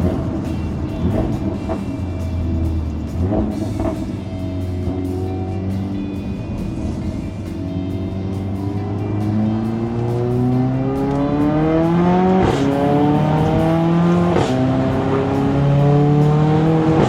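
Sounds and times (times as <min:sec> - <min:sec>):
car engine accelerating hard: 0:00.0 - 0:17.0
exhaust cracking on upshifts: 0:00.0 - 0:17.0.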